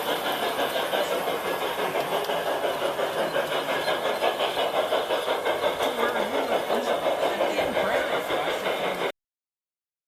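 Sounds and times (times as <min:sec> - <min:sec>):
model train running on track: 0:00.0 - 0:09.2.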